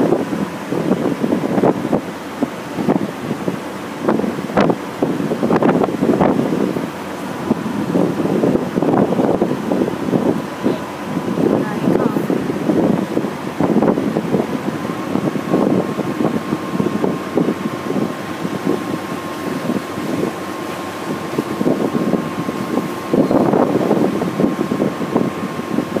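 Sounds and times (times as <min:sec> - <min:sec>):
boat engine running: 0:00.0 - 0:26.0
wash of boat wake: 0:00.0 - 0:26.0
wind buffeting microphone: 0:00.0 - 0:26.0
thin steady whine: 0:02.6 - 0:26.0.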